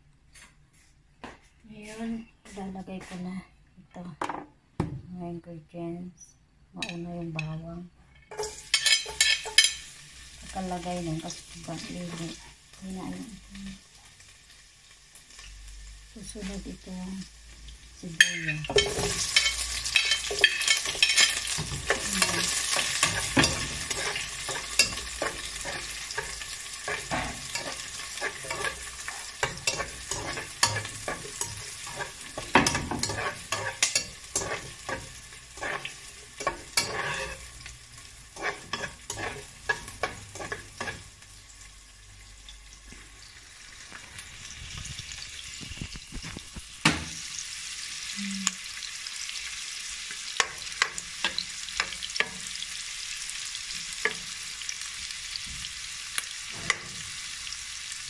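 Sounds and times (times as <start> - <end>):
onions sizzling in oil: 8.3 - 58.0.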